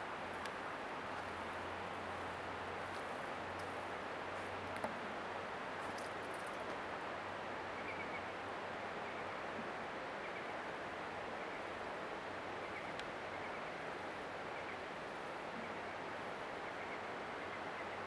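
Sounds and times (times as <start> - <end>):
rushing outdoor ambience: 0.0 - 18.0.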